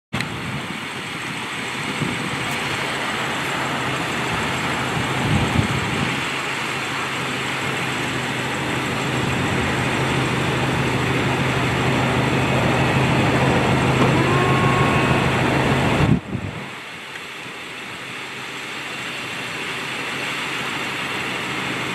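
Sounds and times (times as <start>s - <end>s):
car idling: 0.2s - 21.9s
convertible roof mechanism humming: 0.2s - 21.9s.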